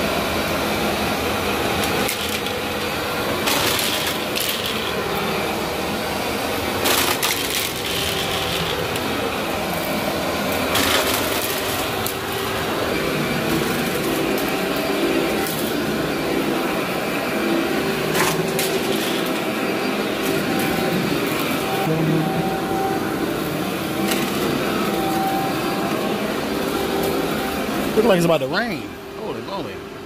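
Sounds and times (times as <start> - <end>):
vacuum cleaner running on carpet: 0.0 - 29.7
debris crackling in vacuum: 1.8 - 28.2.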